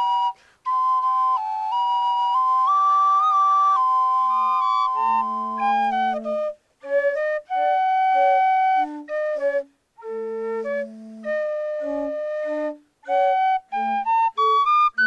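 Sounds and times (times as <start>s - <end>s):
flute-like wind instruments melody: 0.0s - 15.0s.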